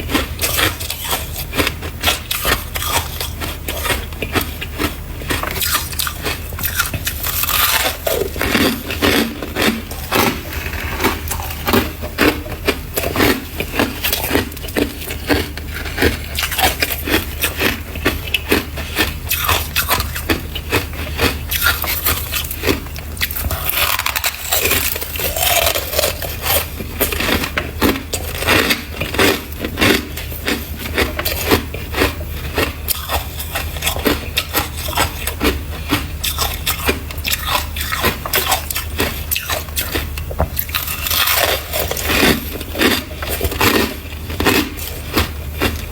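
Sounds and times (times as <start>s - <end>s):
crunchy chewing of frost: 0.0s - 45.9s
steady low hum: 0.0s - 45.9s.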